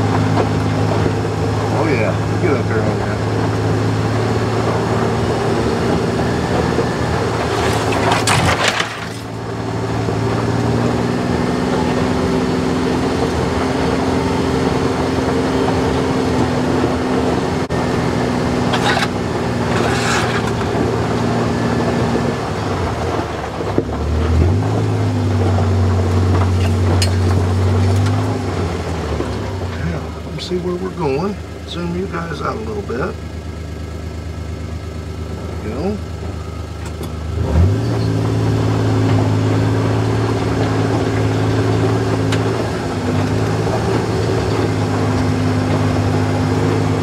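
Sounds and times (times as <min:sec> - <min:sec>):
utility vehicle engine running: 0:00.0 - 0:47.0.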